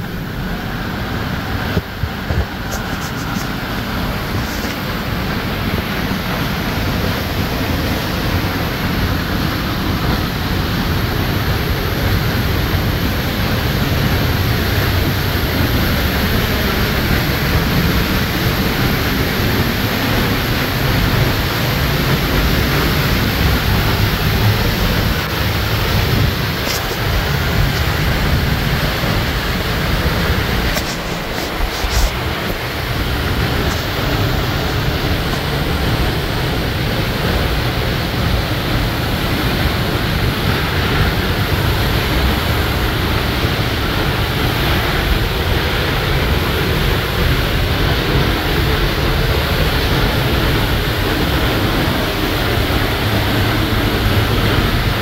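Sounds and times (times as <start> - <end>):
waterfall rushing: 0.0 - 55.0
wind blowing on microphone: 0.0 - 55.0.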